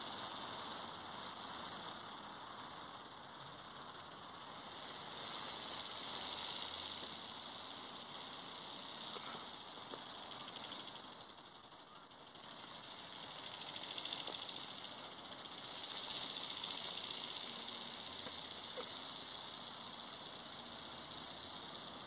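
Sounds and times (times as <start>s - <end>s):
toy bird motor buzz: 0.0s - 22.0s.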